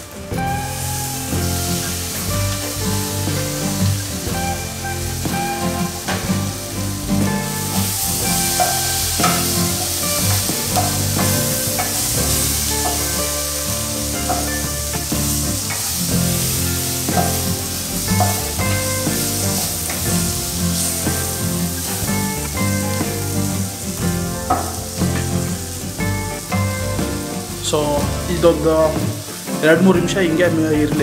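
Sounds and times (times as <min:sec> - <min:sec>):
vegetables sizzling in oil: 0:00.0 - 0:30.9
background music: 0:00.0 - 0:31.0.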